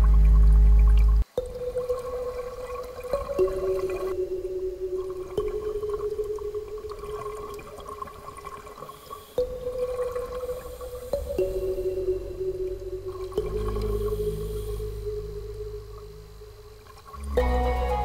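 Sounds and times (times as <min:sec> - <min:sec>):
steady hum: 0:00.0 - 0:18.0
underwater bubbling water: 0:00.0 - 0:18.0.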